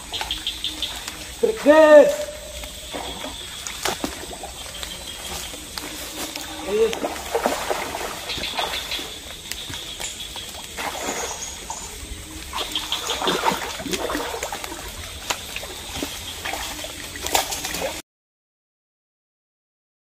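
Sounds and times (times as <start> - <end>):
fish splashing in water: 0.0 - 18.0.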